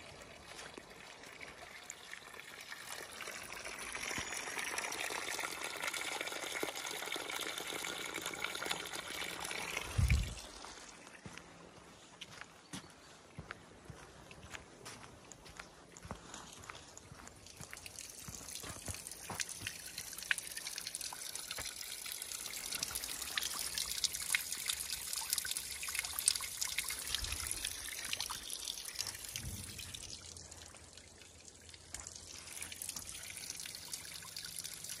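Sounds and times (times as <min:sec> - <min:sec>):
water trickling onto stones: 0:00.0 - 0:11.3, 0:15.3 - 0:35.0.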